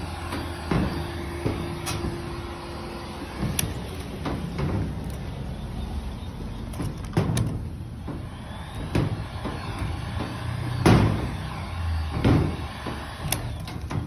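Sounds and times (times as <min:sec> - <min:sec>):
heat gun whirring: 0:00.0 - 0:14.0.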